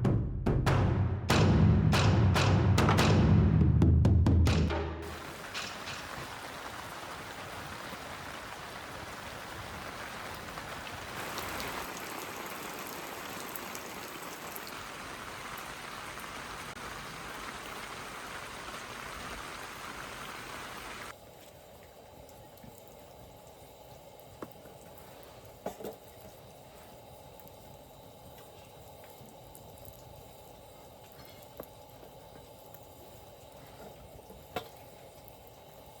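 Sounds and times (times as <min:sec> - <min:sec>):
steady rain falling: 0:05.0 - 0:36.0.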